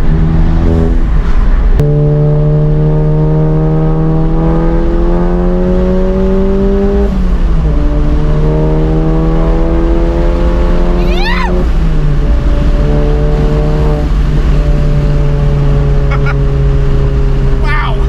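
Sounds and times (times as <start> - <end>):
turbocharged car engine accelerating: 0.0 - 18.0.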